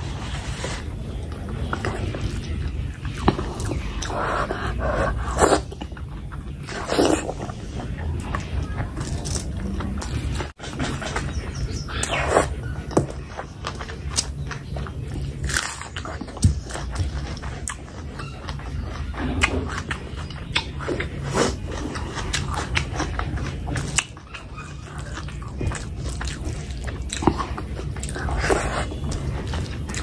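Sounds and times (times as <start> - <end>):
crunching and chewing raw onion: 0.0 - 30.0.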